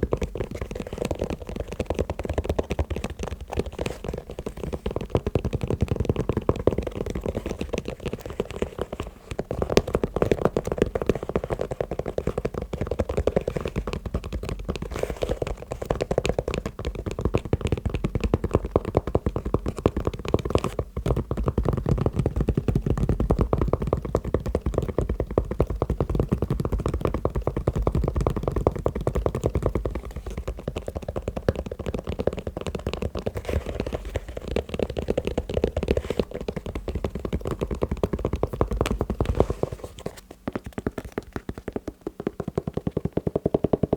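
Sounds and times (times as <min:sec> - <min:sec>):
fast tapping on shoes: 0:00.0 - 0:43.9.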